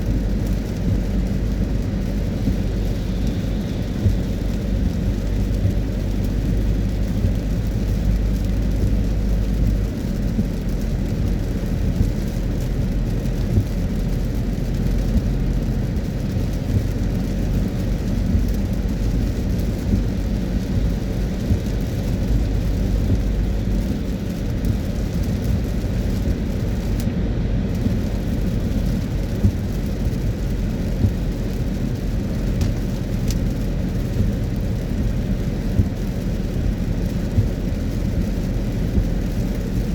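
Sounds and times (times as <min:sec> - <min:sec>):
car driving on wet road: 0:00.0 - 0:39.9
rain: 0:00.0 - 0:39.9.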